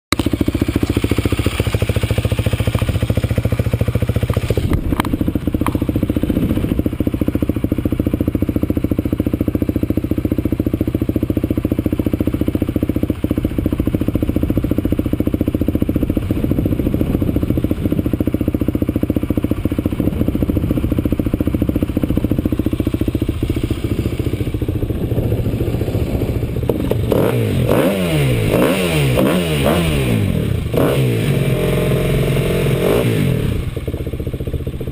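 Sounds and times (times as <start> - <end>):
vehicle engine running and revving: 0.1 - 34.9.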